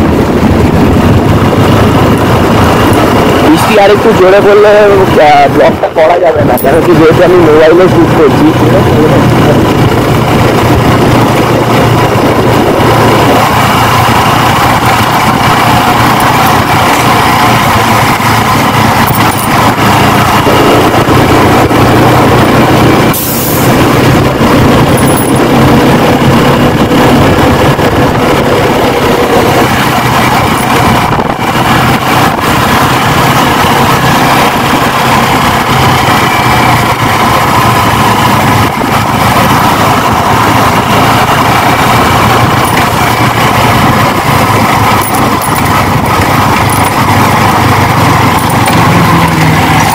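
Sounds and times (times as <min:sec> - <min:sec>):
bus passing: 0:00.0 - 0:49.9
motorcycle engine running: 0:00.0 - 0:49.9
road and wind noise: 0:00.0 - 0:49.9.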